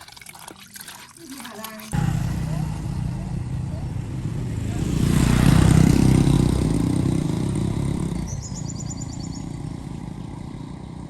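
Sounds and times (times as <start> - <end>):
vehicle engine rumbling: 2.0 - 11.0.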